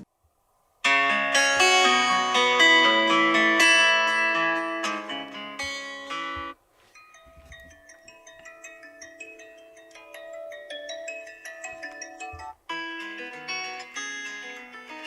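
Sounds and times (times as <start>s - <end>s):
plucked guitar-like ringtone: 0.8s - 15.0s.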